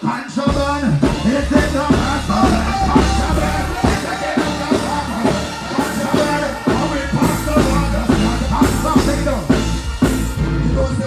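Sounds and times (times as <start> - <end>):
live reggae band music: 0.0 - 11.0
steady drum beat: 0.0 - 11.0.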